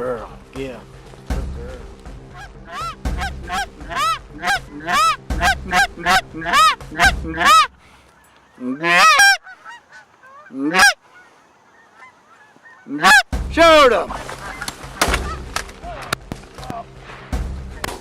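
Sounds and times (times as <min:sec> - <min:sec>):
goose honking: 0:01.4 - 0:16.8
stuttering goose honk: 0:01.4 - 0:16.8.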